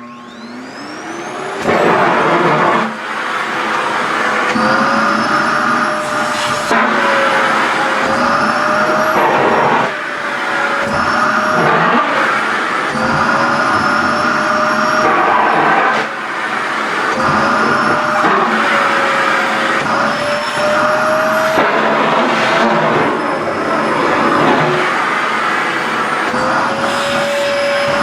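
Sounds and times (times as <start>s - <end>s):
vacuum cleaner sucking fabric: 0.0s - 28.0s.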